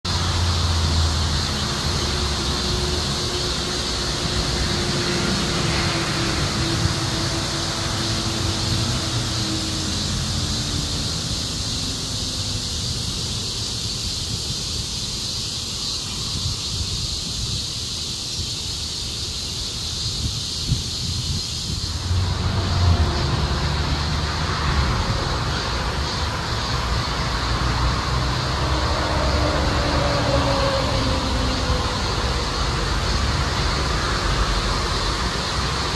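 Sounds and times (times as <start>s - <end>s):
cicadas buzzing: 0.0s - 35.9s
street traffic rumble: 0.0s - 35.9s.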